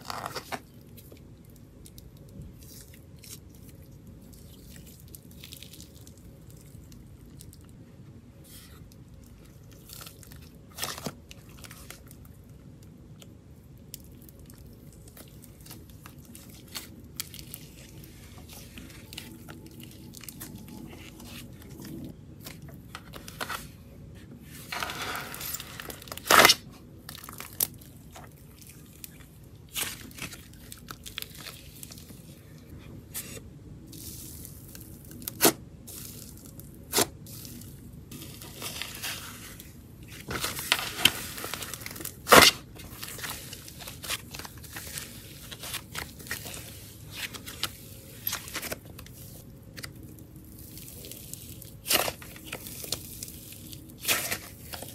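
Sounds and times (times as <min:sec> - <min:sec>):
slime squishing and crackling: 0:00.0 - 0:07.8, 0:08.4 - 0:23.8, 0:24.6 - 0:54.9.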